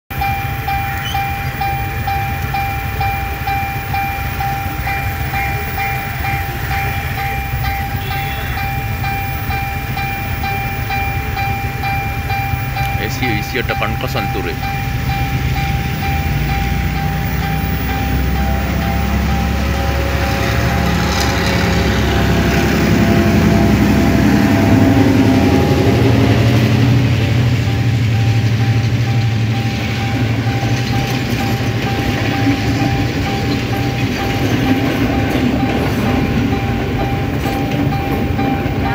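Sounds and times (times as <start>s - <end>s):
diesel locomotive running: 0.1s - 38.9s
level crossing warning tone: 0.1s - 38.9s.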